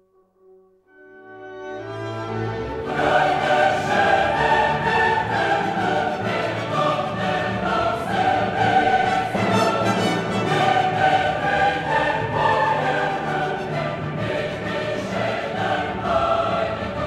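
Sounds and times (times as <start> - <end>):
choir singing with orchestra: 1.3 - 17.0.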